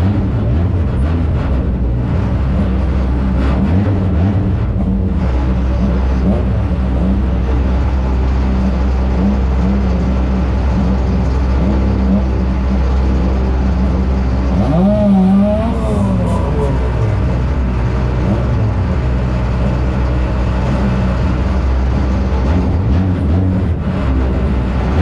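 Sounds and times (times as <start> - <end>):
car engine running hard: 0.0 - 25.0
low rumble: 0.0 - 25.0.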